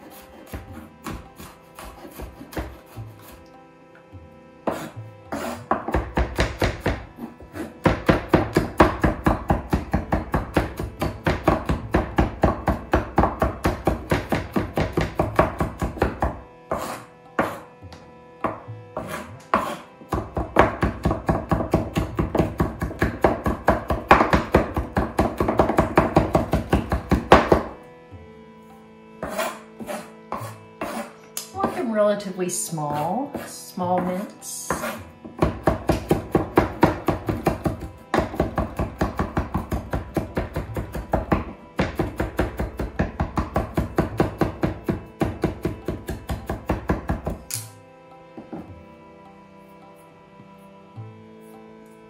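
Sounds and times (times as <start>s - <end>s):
knife chopping on wooden board: 0.0s - 3.5s, 4.6s - 27.8s, 29.2s - 31.9s, 32.9s - 47.8s.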